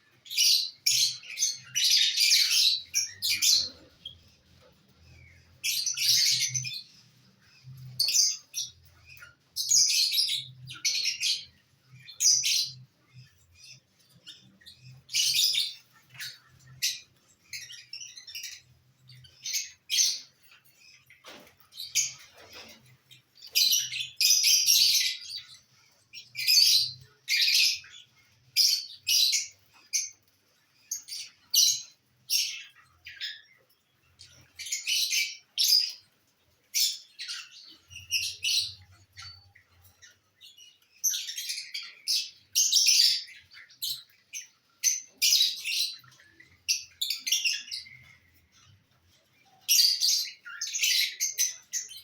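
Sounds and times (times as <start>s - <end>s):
lovebirds chirping: 0.0s - 52.0s.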